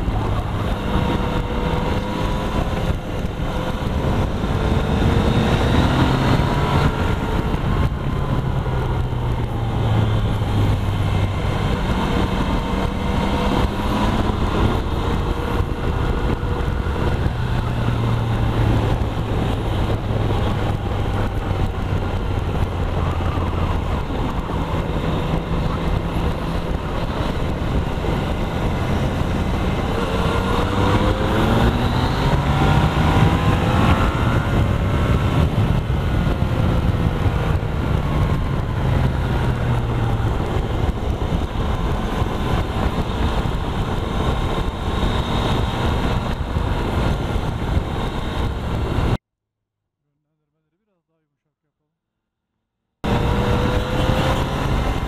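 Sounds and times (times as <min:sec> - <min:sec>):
motorcycle engine running: 0:00.0 - 0:49.2
steady rush of noise: 0:00.0 - 0:49.2.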